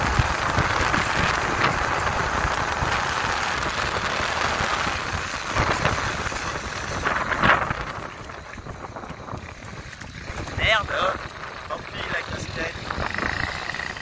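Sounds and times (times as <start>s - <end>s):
moped two-stroke engine: 0.0s - 14.0s
wind on microphone: 0.0s - 14.0s.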